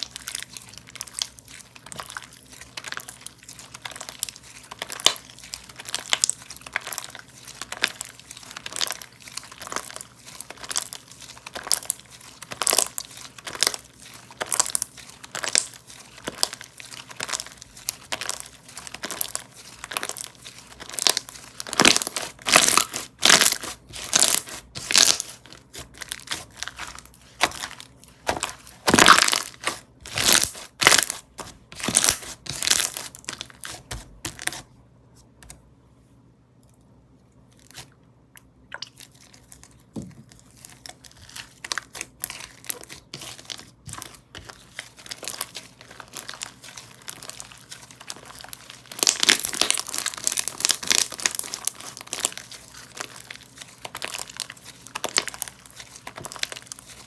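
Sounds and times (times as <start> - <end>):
slime crackling and popping: 0.0 - 34.6, 38.7 - 57.0.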